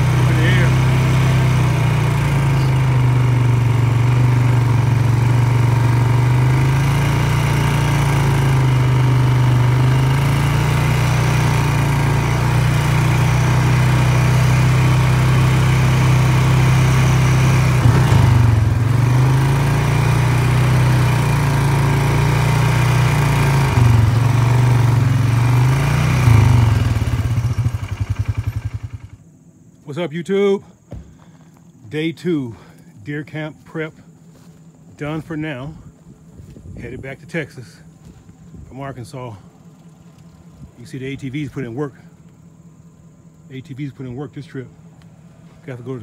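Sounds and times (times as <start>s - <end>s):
atv engine running: 0.0s - 29.7s, 30.7s - 46.0s.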